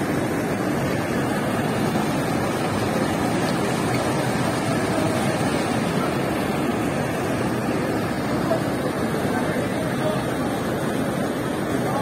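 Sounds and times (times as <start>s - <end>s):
river water rushing around stone: 0.0s - 12.0s.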